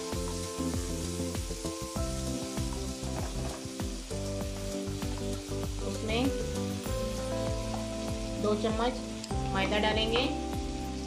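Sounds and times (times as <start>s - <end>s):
butter sizzling in a wok: 0.0s - 11.0s
soft background music: 0.0s - 11.0s.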